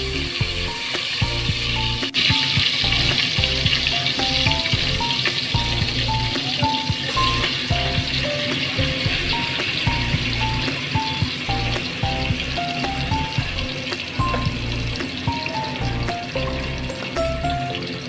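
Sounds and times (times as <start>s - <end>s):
background music: 0.0s - 18.0s
chicken frying in oil: 0.0s - 18.0s.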